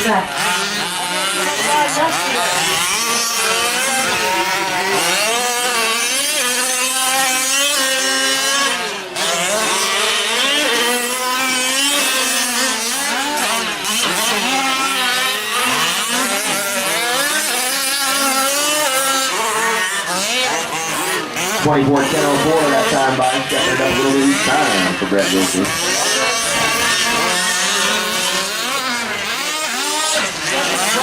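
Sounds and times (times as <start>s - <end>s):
small two-stroke engines racing: 0.0s - 31.0s.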